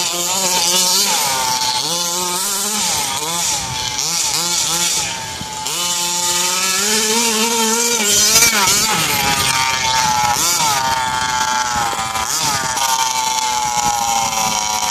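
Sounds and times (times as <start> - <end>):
rc buggy two-stroke engine revving: 0.0 - 14.9.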